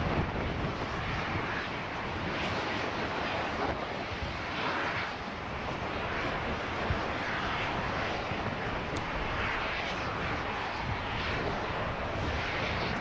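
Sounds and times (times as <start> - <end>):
lava surging and spattering: 0.0 - 13.0.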